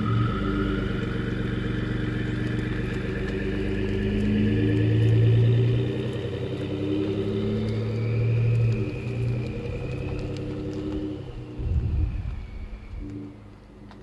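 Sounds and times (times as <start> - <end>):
engine exhaust note revving: 0.0 - 13.4
high turbo whistle: 0.0 - 13.8.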